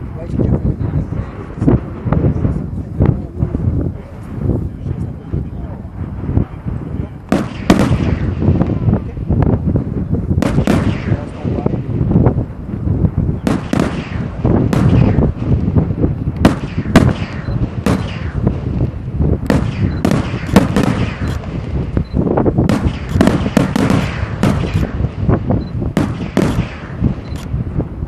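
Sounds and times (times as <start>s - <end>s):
fireworks bursting with loud bangs: 0.0s - 28.0s.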